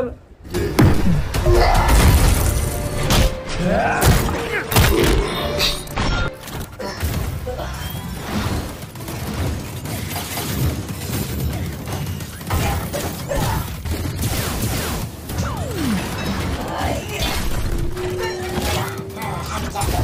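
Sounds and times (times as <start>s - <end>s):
action movie music: 0.4s - 20.0s.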